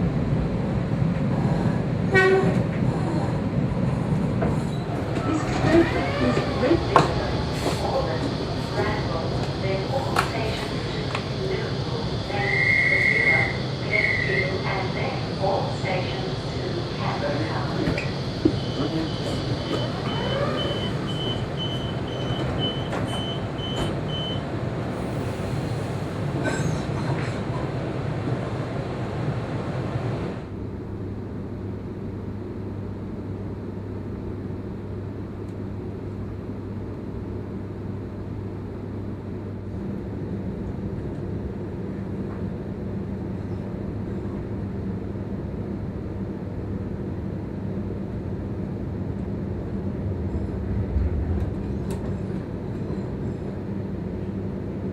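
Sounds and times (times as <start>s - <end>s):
electric train rumble and hum: 0.0s - 54.9s.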